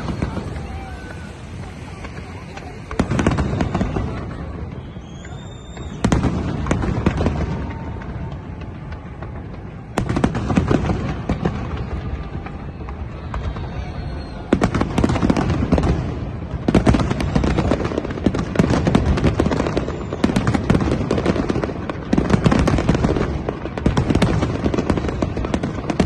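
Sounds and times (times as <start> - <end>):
fireworks booming bursts: 0.0 - 26.0
fireworks crackling and popping: 0.0 - 26.0.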